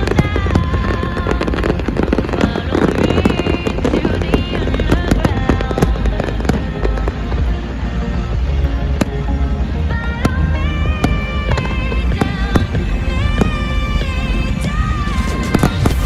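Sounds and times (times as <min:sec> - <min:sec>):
firecrackers crackling: 0:00.0 - 0:16.0
low rumble: 0:00.0 - 0:16.0
music with wavering melody: 0:00.0 - 0:16.0.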